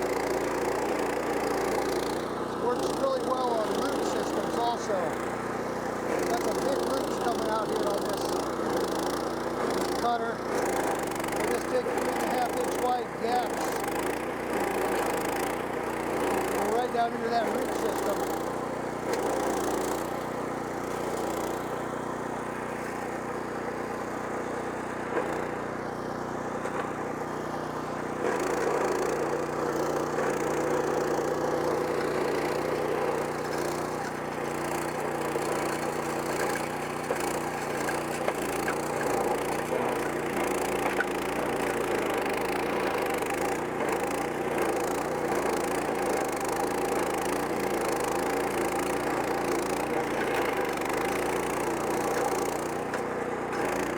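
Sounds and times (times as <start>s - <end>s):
cutting wheel grinding wood: 0.0s - 53.9s
engine running under load: 0.0s - 53.9s.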